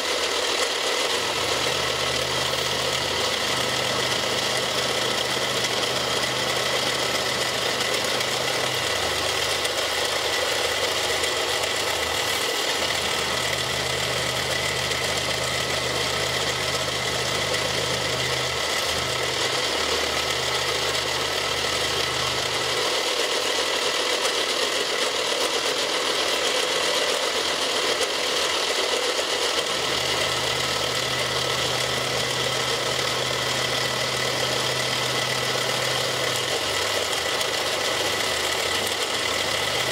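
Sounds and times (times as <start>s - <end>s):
milling machine cutting plastic: 0.0s - 39.9s.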